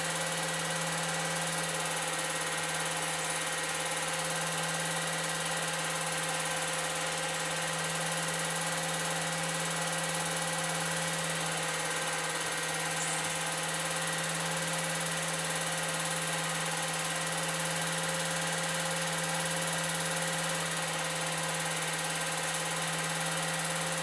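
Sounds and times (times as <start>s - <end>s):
film projector whirring: 0.0s - 24.0s.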